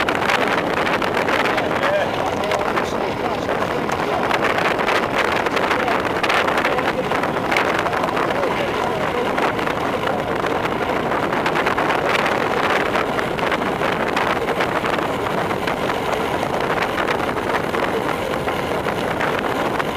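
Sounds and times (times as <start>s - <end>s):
wind rushing on microphone: 0.0s - 19.9s.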